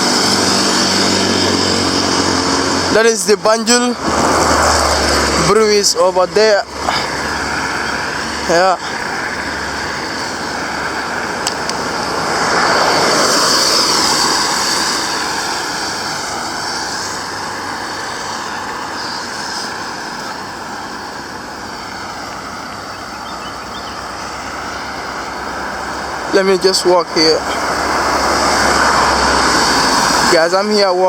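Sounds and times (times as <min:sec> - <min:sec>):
road traffic noise: 0:00.0 - 0:31.0
vehicle passing close by: 0:00.0 - 0:31.0.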